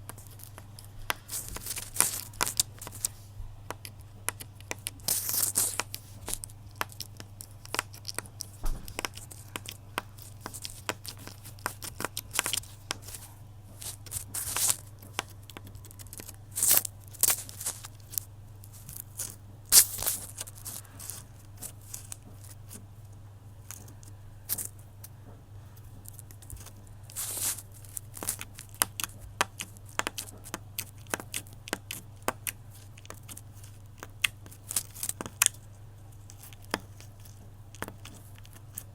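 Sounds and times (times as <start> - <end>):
material crinkling and tearing: 0.0 - 22.8, 26.0 - 38.9
low electrical hum: 0.0 - 38.9.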